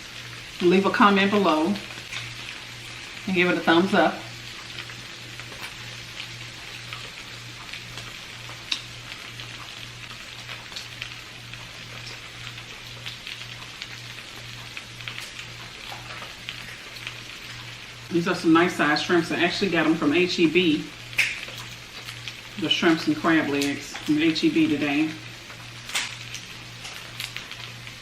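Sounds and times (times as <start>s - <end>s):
crackles and pops: 0.0s - 28.0s
food sizzling in a skillet: 0.0s - 28.0s.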